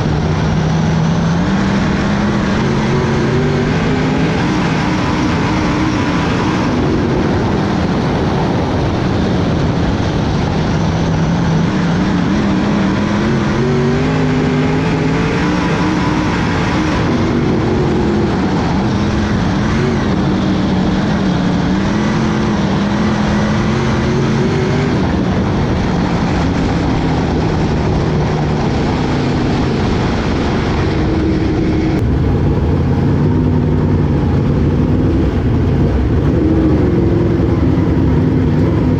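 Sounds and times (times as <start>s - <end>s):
race car engines: 0.0s - 38.9s.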